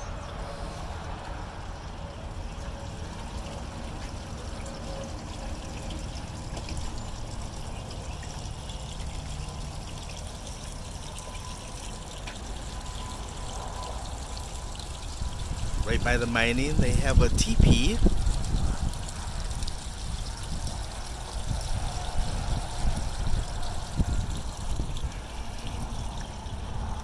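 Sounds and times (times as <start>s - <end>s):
water trickling through trough: 0.0s - 27.0s.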